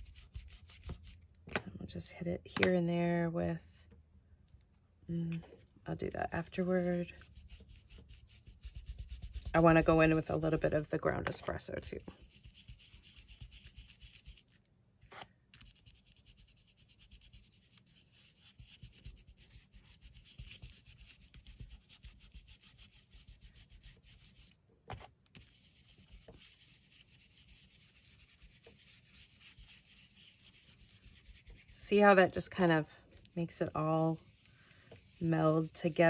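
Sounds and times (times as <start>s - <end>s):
brush scrubbing paper: 0.0s - 1.2s, 6.0s - 36.0s.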